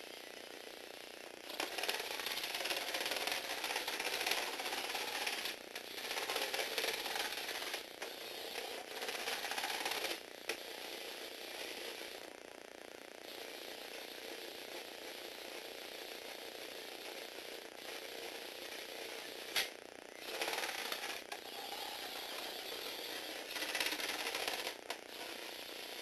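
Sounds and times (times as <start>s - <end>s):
small electric motor gear whir: 0.0s - 12.3s, 13.3s - 26.0s.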